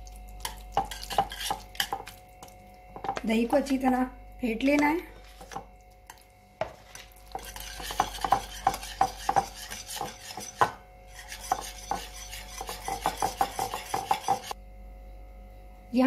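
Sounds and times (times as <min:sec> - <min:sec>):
utensil beating yogurt in bowl: 0:00.4 - 0:03.9, 0:04.6 - 0:14.6.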